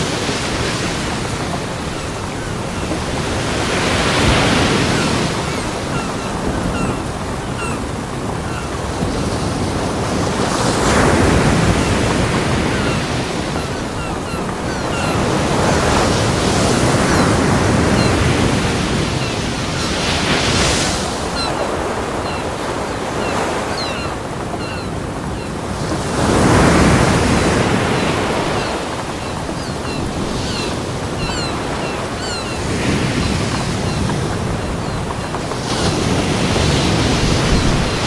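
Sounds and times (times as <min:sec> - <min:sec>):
ocean surf breaking on beach: 0:00.0 - 0:38.0.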